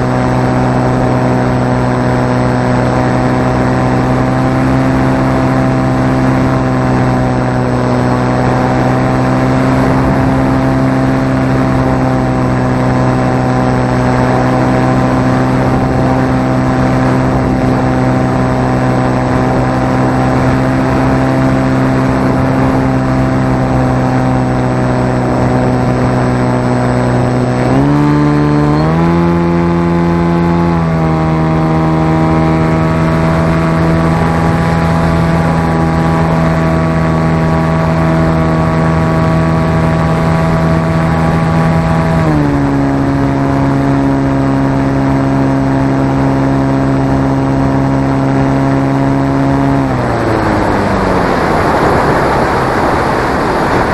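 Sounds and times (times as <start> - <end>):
wind rush: 0.0 - 27.9, 30.9 - 53.9
model aircraft motor and propeller: 0.0 - 53.9.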